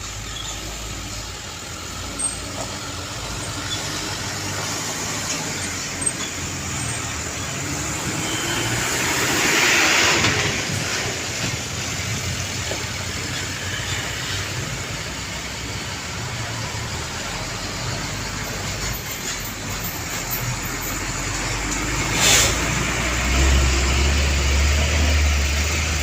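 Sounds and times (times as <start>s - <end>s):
road traffic passing: 0.0s - 26.0s
vehicle passing close: 1.9s - 18.8s, 20.5s - 26.0s.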